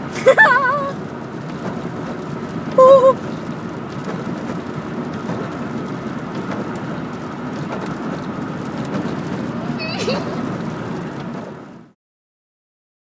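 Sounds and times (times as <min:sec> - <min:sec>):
car road noise: 0:00.0 - 0:12.0.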